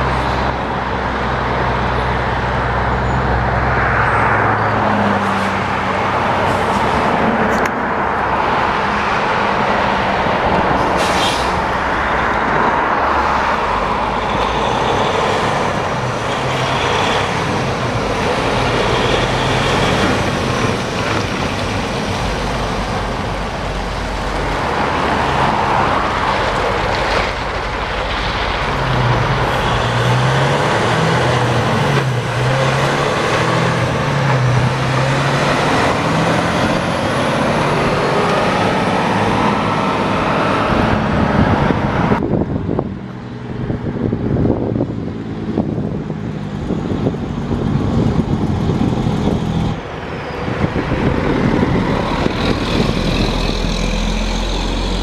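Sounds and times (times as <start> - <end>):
diesel trucks shifting gears: 0.0 - 55.0
distant truck approaching: 0.0 - 55.0.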